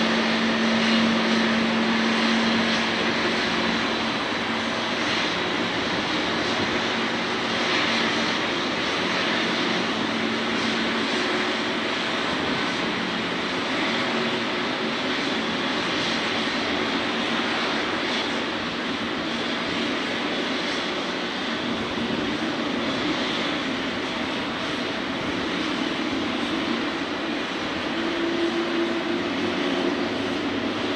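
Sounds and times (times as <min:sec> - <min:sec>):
jet engines whining: 0:00.0 - 0:30.9.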